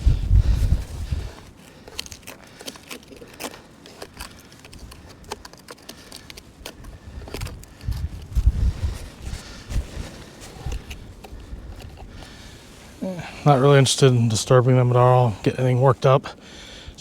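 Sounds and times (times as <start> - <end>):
crusted snow and ice crunching: 0.0 - 16.4.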